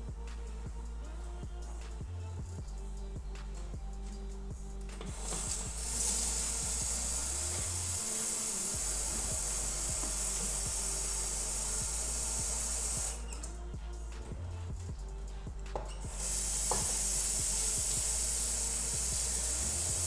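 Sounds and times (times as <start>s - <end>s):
background music with a beat: 0.0s - 20.0s
steady hiss: 0.0s - 20.0s.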